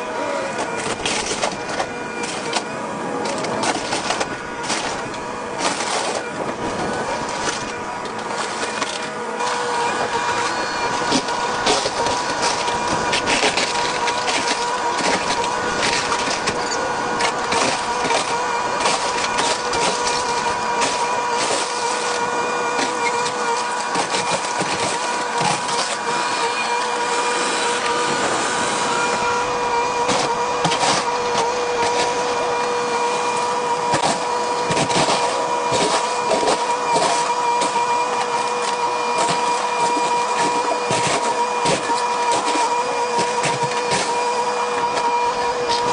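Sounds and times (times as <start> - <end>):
excavator whining: 0.0 - 45.9
cracks and crunches of demolition: 0.2 - 28.0, 29.1 - 45.9.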